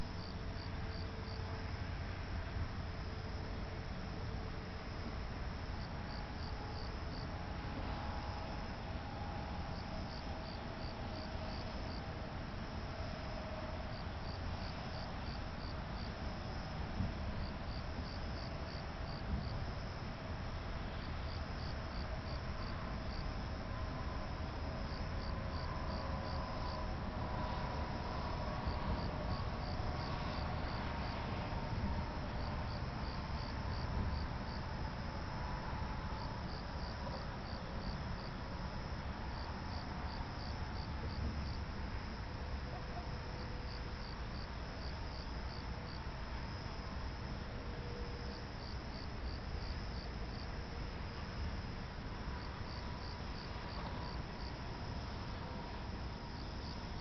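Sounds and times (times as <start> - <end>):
crickets chirping: 0.0 - 57.0
steady low hiss: 0.0 - 57.0.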